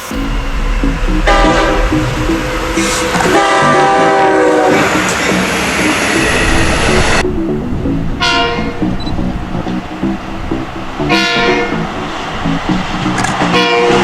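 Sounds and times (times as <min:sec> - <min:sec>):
train horn blasts: 0:00.0 - 0:07.2, 0:08.1 - 0:14.0
train running noise: 0:00.0 - 0:14.0.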